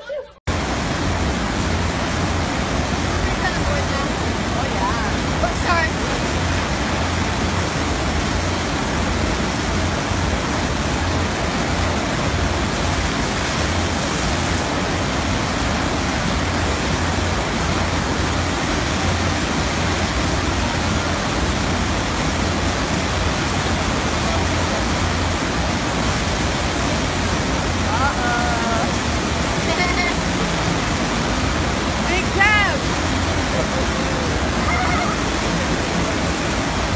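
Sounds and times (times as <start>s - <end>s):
water rushing over wave ride: 0.0s - 36.9s.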